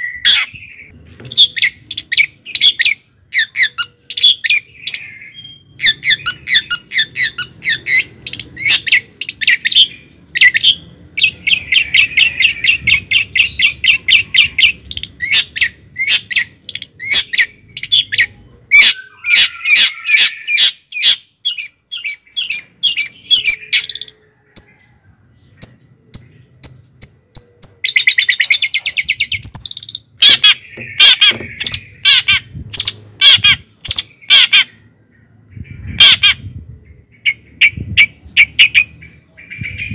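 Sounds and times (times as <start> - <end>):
bird chirping and squawking: 0.0 - 24.8, 25.4 - 39.9.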